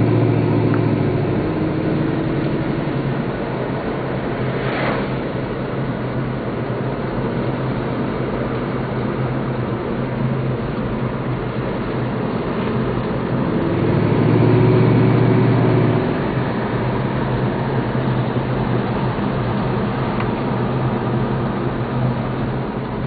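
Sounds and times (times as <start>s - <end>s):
car engine running: 0.0s - 23.0s
road noise: 0.0s - 23.0s.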